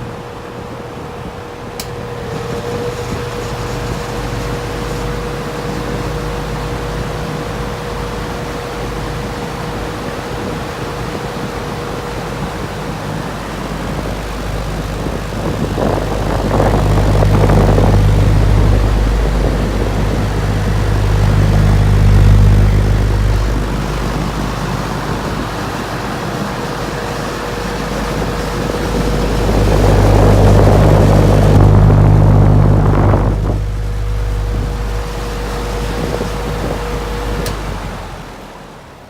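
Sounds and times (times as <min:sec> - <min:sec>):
air rushing from fan blades: 0:00.0 - 0:39.0
electric fan motor hum: 0:00.0 - 0:39.0.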